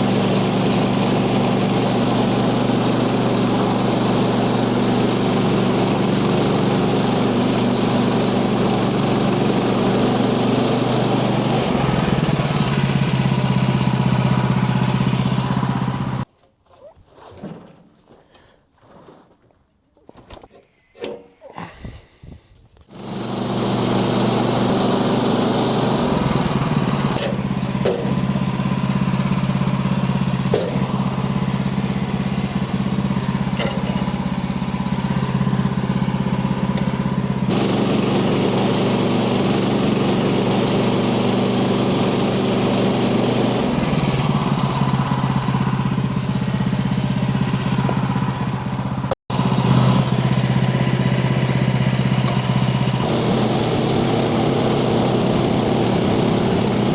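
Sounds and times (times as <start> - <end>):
small gas engine running: 0.0 - 16.3, 22.9 - 56.9.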